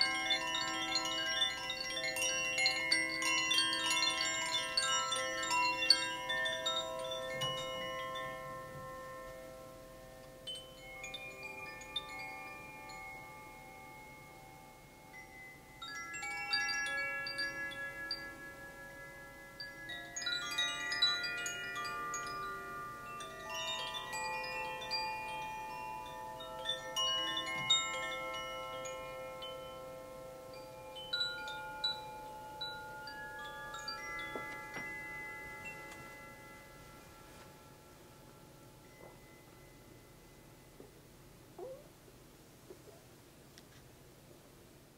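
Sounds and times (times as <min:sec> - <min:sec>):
wind chimes ringing: 0:00.0 - 0:41.8.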